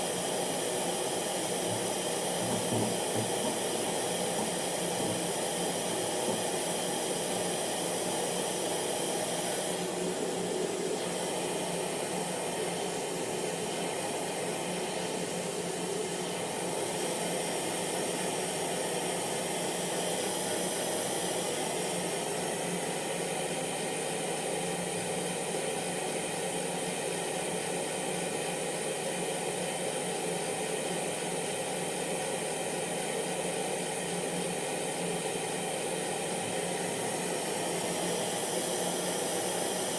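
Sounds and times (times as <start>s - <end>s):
hair dryer airflow rush: 0.0s - 39.9s.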